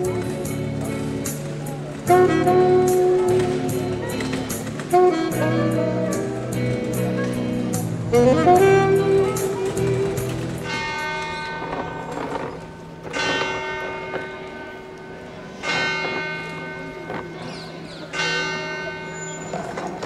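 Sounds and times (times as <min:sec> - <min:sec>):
church bell tolling: 0:00.0 - 0:20.0.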